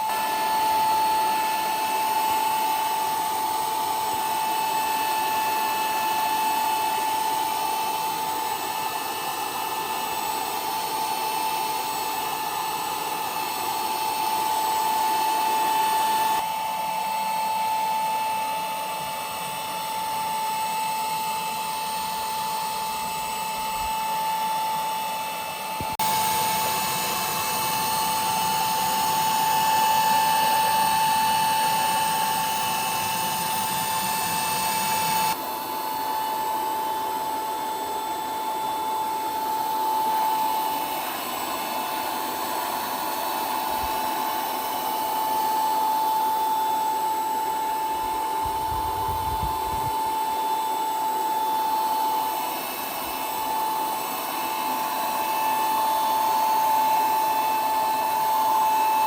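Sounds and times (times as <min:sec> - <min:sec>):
power tool whining: 0:00.0 - 0:59.0.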